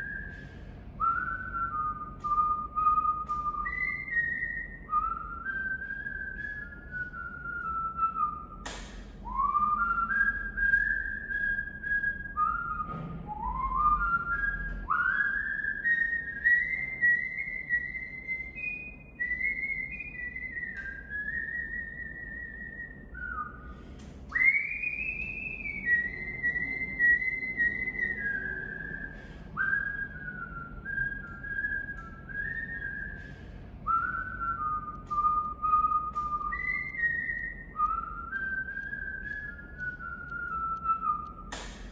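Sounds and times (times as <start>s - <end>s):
person whistling a slow tune: 0.0s - 41.9s.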